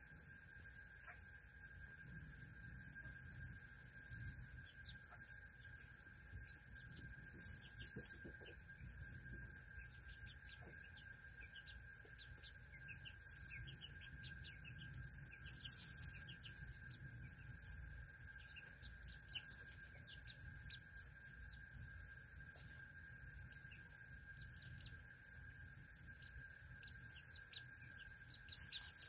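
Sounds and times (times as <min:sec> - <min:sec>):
small birds chirping: 0:00.0 - 0:29.0
steady high-pitched whine: 0:00.0 - 0:29.0.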